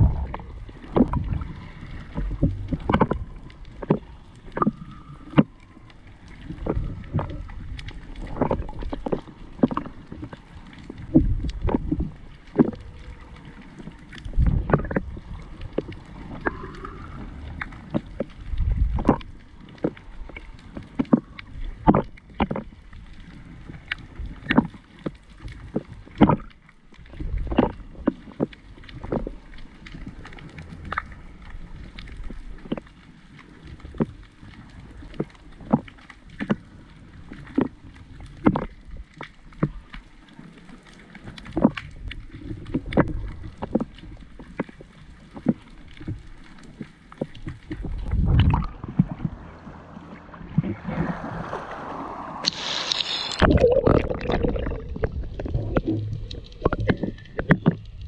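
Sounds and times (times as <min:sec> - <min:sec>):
knocks and clicks underwater: 0:00.0 - 0:58.0
muffled underwater water rumble: 0:00.0 - 0:58.0.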